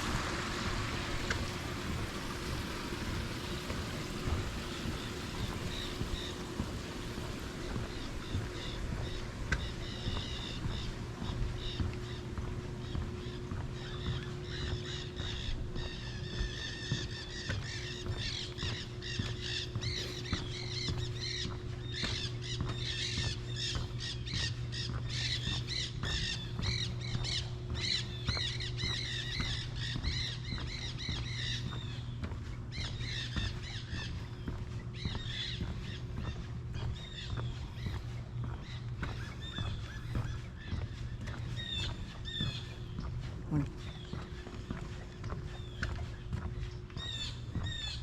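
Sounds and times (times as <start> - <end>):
many birds calling: 0.0 - 48.0
steady low hum: 0.0 - 48.0.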